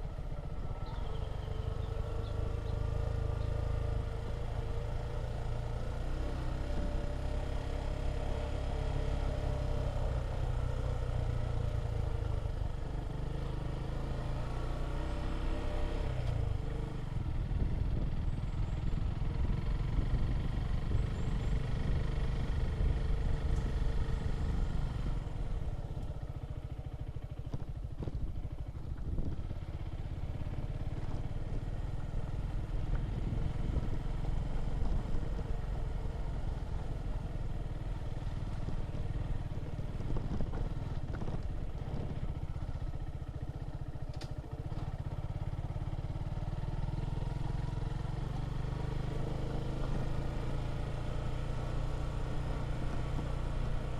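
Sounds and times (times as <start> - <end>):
road rumble: 0.0 - 53.9
vehicle engine running: 0.0 - 53.9.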